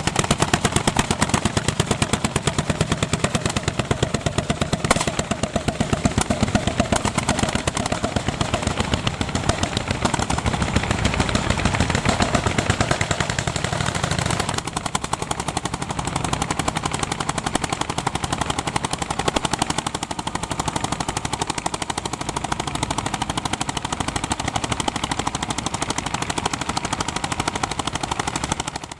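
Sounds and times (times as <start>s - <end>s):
tractor engine popping: 0.0s - 28.9s.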